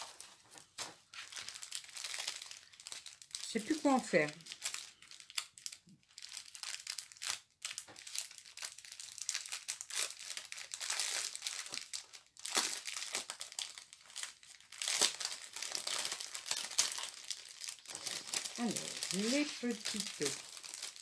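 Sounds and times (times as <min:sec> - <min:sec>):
plastic packaging crinkling: 0:00.0 - 0:21.0.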